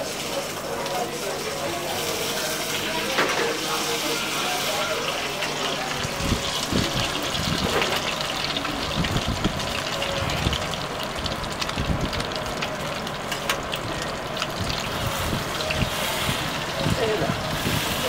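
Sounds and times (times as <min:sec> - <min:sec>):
omelette sizzling in oil: 0:00.0 - 0:18.0.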